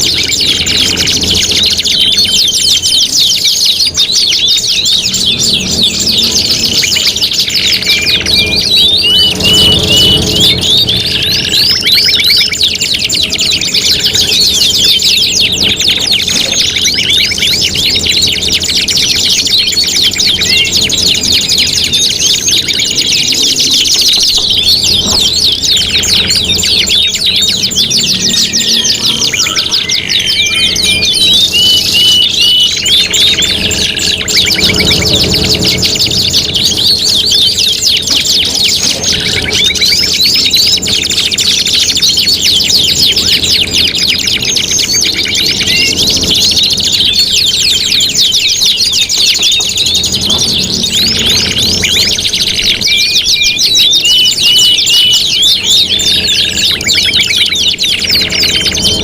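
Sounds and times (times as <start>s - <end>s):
canaries trilling and chirping: 0.0s - 59.0s.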